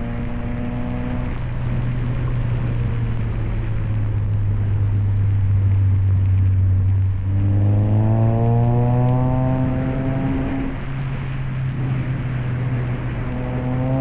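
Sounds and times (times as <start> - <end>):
car engine cruising: 0.0 - 14.0
tyre noise on snowy road: 0.0 - 14.0.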